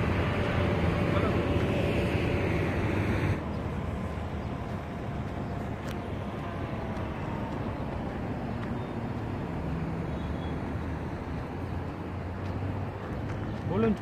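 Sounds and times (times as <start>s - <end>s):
faint engine hum: 0.0s - 14.0s
road traffic rumble: 0.0s - 14.0s.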